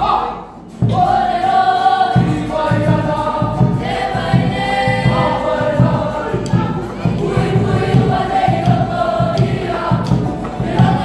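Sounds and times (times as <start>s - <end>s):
choir of young voices singing: 0.0s - 11.0s
steady low beat: 2.0s - 11.0s.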